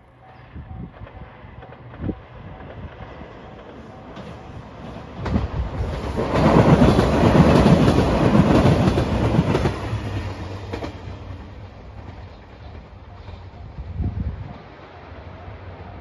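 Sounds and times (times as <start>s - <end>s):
train wheels clacking over joints: 0.2s - 13.5s.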